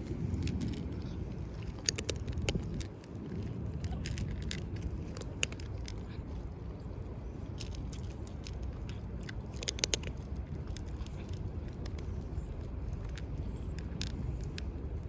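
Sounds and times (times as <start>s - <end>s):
wind rumble on microphone: 0.0s - 15.0s
cat chewing food: 0.2s - 6.3s, 7.6s - 14.7s.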